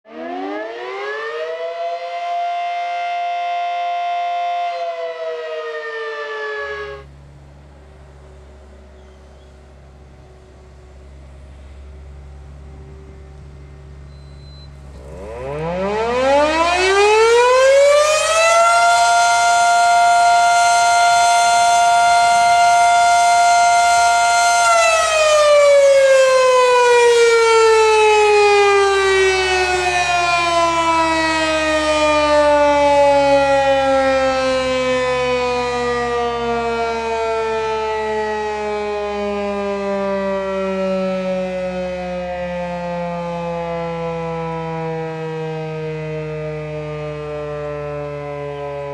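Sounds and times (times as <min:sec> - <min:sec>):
siren winding up and down: 0:00.1 - 0:07.1, 0:14.1 - 0:48.9.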